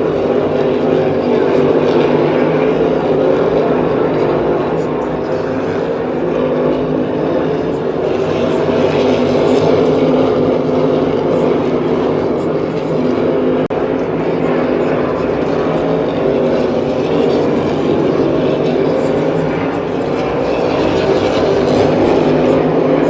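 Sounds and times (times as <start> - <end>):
race car engines roaring: 0.0 - 23.0.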